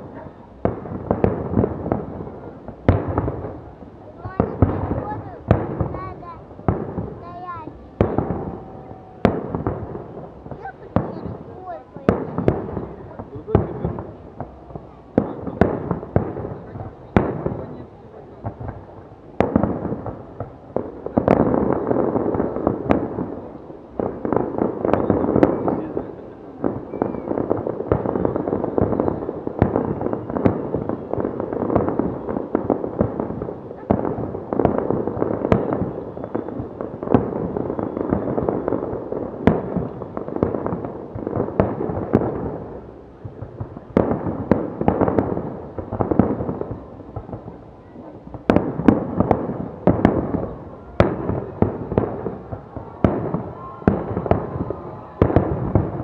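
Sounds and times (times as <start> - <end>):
fireworks bursting and crackling: 0.0 - 56.0
loud single firework reports: 0.0 - 56.0.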